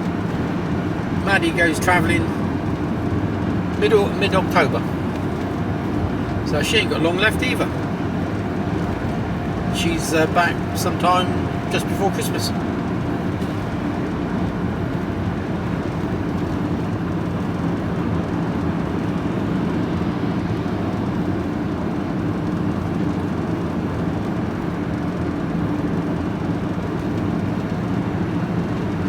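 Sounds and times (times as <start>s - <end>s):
van engine and road noise: 0.0s - 29.0s.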